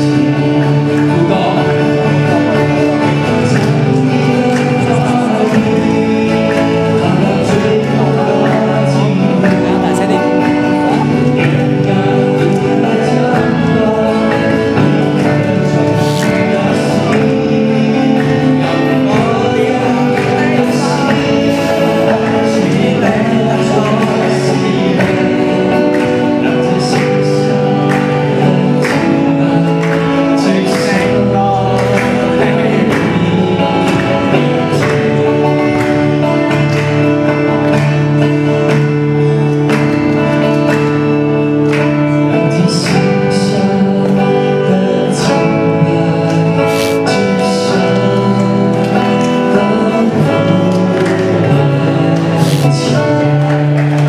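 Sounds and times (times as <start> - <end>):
acoustic guitars: 0.0 - 54.0
man singing: 0.0 - 54.0.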